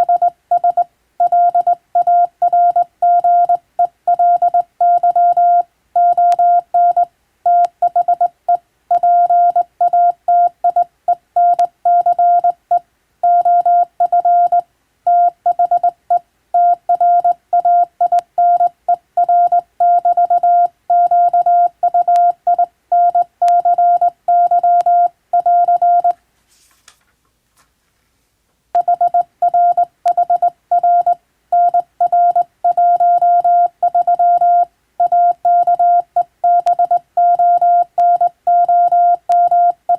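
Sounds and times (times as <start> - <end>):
morse code tone: 0.0 - 8.3, 8.9 - 10.8, 11.4 - 16.0, 16.6 - 26.2, 28.8 - 39.8.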